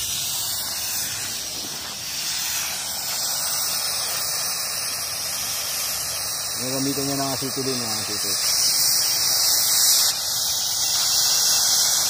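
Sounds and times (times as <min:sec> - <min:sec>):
cutting torch hissing: 0:00.0 - 0:12.0.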